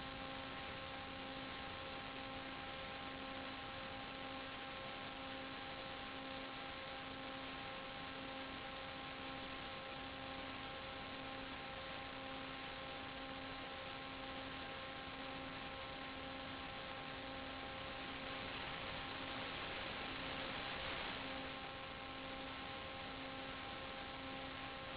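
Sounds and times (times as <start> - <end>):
constant hiss: 0.0 - 24.9
steady hum of even tones: 0.0 - 24.9.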